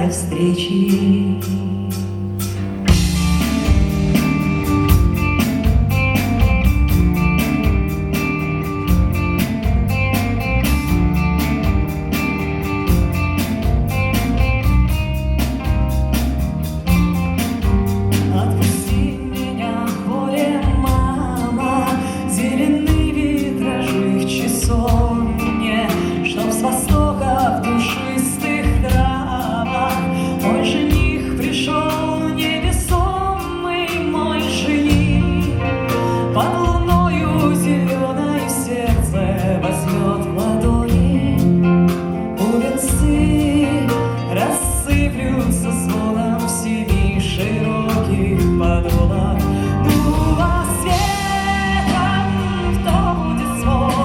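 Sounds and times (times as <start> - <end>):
folk-rock band playing live: 0.0 - 54.0.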